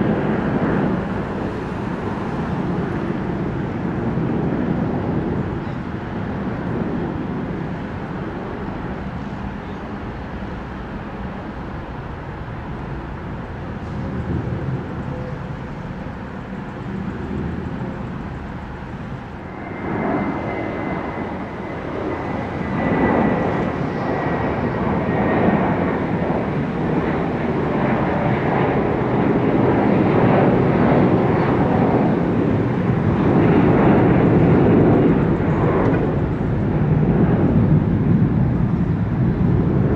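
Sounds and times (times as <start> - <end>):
high fan whine: 0.0 - 39.9
jet engines roaring at takeoff: 0.0 - 39.9.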